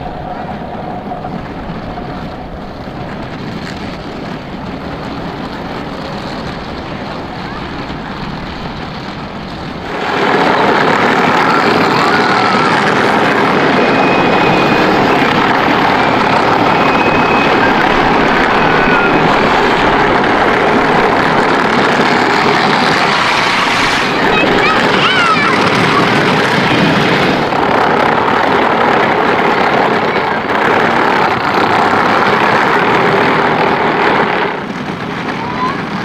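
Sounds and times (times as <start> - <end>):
electric toy vehicles driving: 0.0 - 36.0
plastic wheels rolling on pavement: 0.0 - 36.0.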